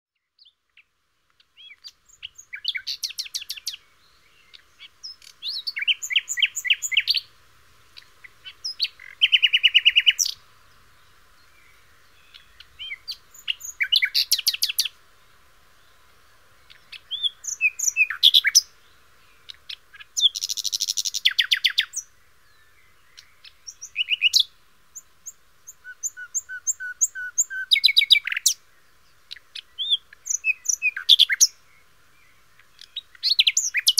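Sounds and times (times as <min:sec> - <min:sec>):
recorded bird chirps and trills: 0:00.1 - 0:33.9.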